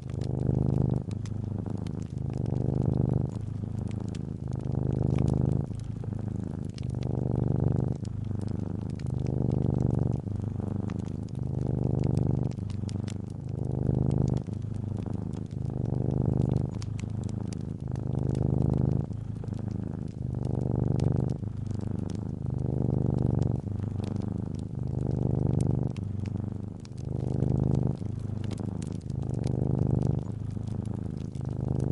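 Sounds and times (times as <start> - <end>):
cat purring: 0.0 - 31.9
wood fire crackling: 0.0 - 31.9.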